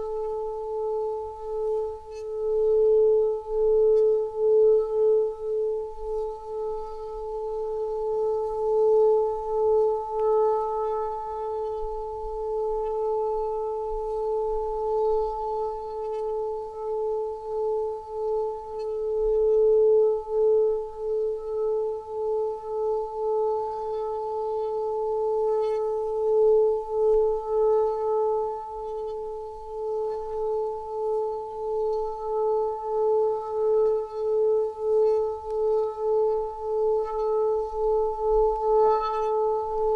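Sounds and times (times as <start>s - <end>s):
ringing drone tone: 0.0s - 39.9s.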